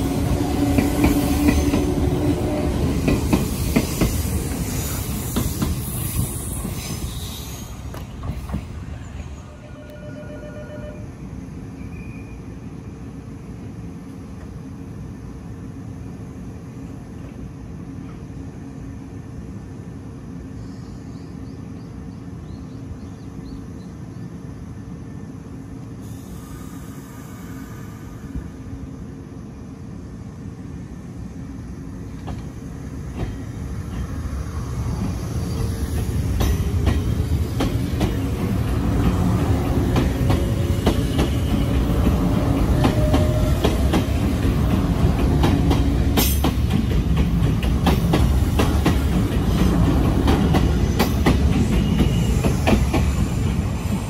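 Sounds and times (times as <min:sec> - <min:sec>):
electric train equipment hum: 0:00.0 - 0:54.0.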